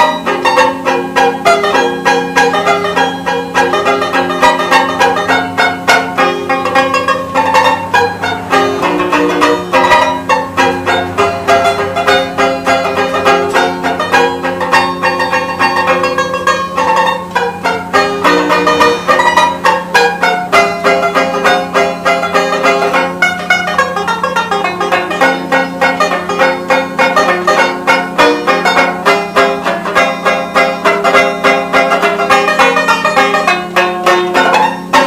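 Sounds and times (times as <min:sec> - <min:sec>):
banjo playing: 0:00.0 - 0:35.0.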